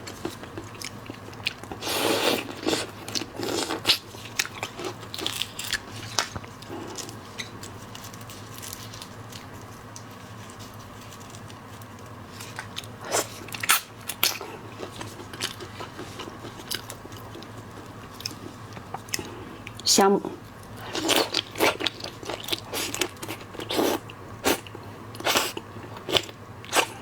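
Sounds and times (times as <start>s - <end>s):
crunching and chewing seafood: 0.0s - 27.0s.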